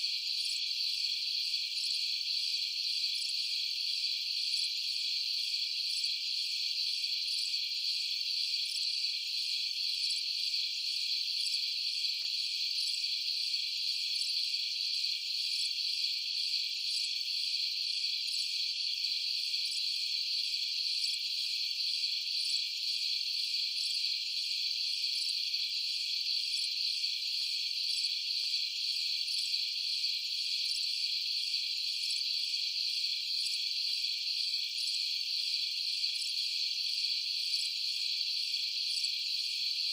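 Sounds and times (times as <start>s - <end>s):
crickets trilling: 0.1s - 39.9s.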